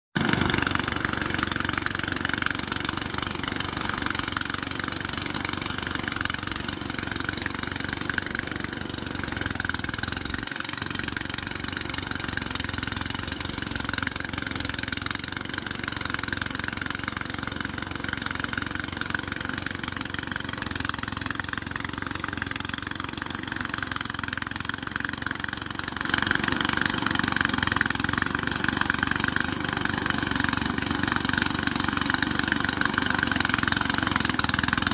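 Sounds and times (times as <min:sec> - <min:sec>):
engine running: 0:00.2 - 0:34.9.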